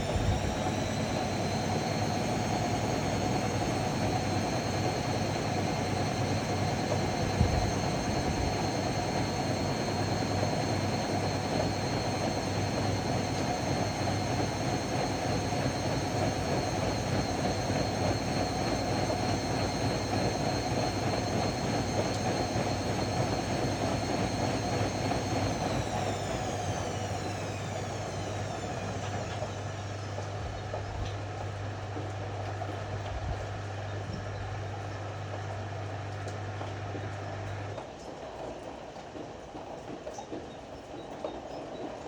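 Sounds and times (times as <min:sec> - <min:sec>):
washer-dryer spinning: 0:00.0 - 0:42.0.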